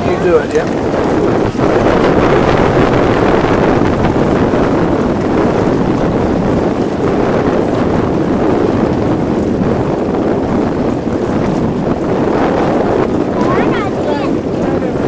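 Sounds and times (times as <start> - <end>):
water rushing along hulls: 0.0 - 15.0
wind noise on microphone: 0.0 - 15.0.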